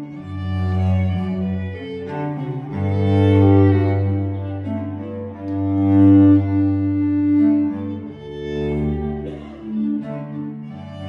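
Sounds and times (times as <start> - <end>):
cello long low notes: 0.0 - 11.0
fiddle melody: 0.0 - 11.0.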